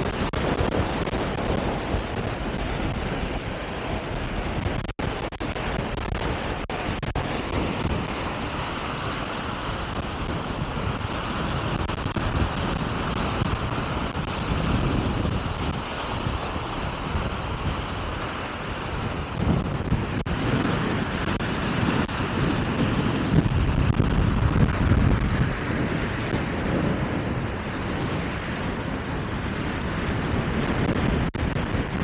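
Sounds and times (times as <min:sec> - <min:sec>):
sea: 0:00.0 - 0:32.0
wind on microphone: 0:00.0 - 0:32.0.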